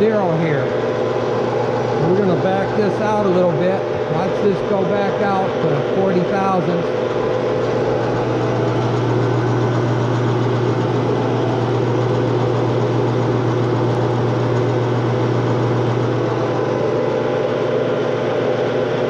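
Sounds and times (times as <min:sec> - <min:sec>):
metal lathe motor drone: 0:00.0 - 0:19.0.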